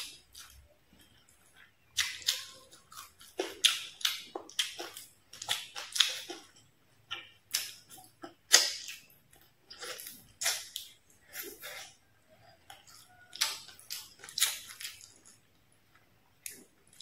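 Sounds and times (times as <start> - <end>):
close chewing and mouth sounds: 0.0 - 17.0.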